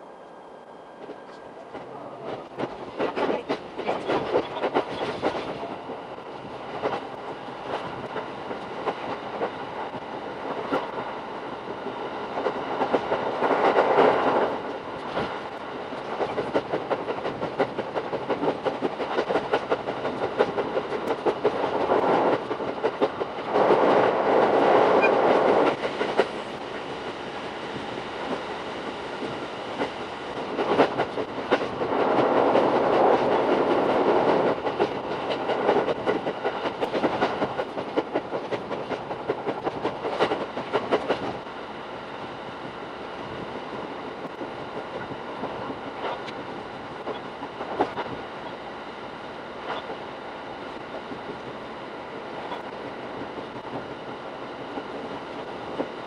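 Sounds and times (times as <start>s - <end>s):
train running rumble: 0.0s - 56.0s
rapid clickety-clack of train wheels: 1.0s - 56.0s.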